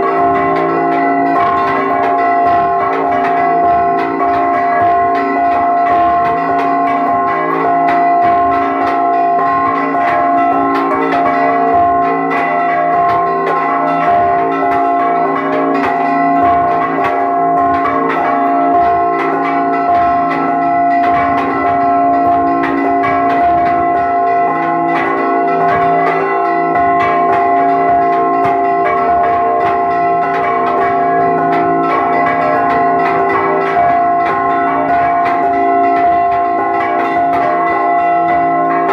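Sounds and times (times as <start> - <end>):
church bells ringing rapidly: 0.0 - 38.9.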